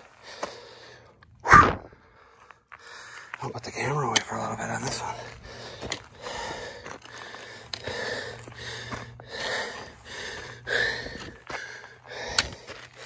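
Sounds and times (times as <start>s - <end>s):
person breathing hard: 0.0s - 3.4s, 5.2s - 13.0s
footsteps on loose gravel: 2.2s - 13.0s.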